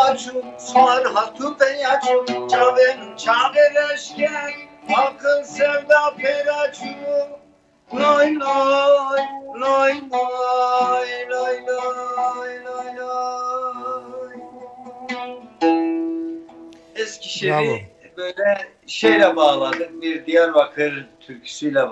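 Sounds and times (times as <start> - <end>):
man singing wordless line: 0.0 - 14.9, 17.0 - 21.9
oud plucked: 0.0 - 21.3.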